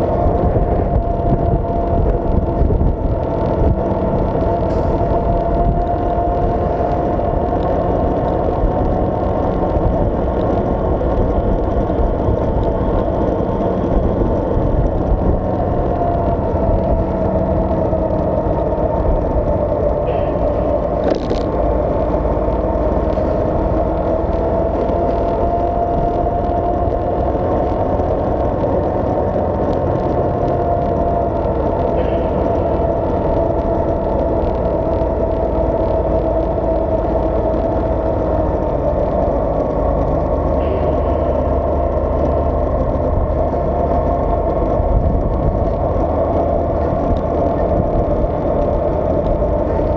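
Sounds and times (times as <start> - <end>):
vehicle engine drone: 0.0 - 49.9.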